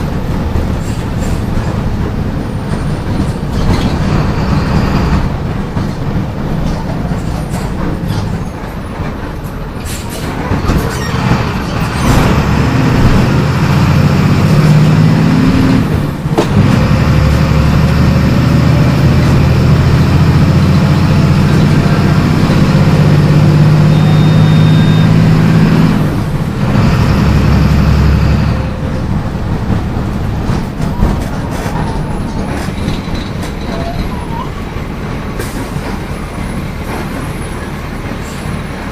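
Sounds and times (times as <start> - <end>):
diesel bus engine running: 0.0 - 38.9.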